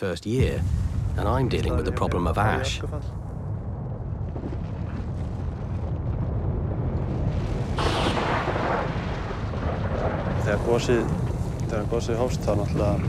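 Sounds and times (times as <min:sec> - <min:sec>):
volcanic eruption rumble: 0:00.2 - 0:13.0
volcanic blast: 0:00.4 - 0:13.0.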